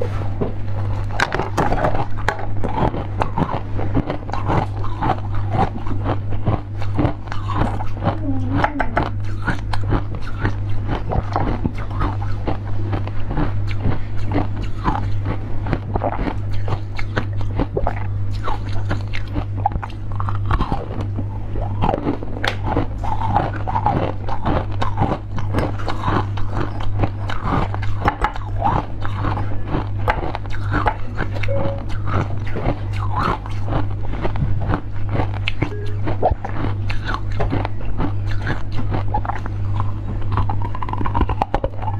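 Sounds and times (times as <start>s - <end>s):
chewing candied fruit: 0.0s - 41.9s
steady low hum: 0.0s - 41.9s.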